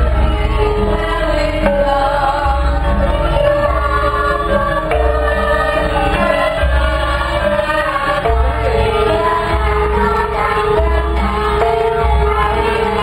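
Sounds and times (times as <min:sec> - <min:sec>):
gamelan ensemble playing: 0:00.0 - 0:13.0
person singing: 0:00.0 - 0:13.0.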